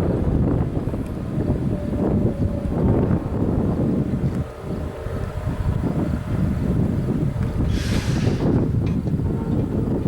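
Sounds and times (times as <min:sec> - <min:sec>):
train rolling past: 0:00.0 - 0:10.0
wind buffeting microphone: 0:00.0 - 0:10.0.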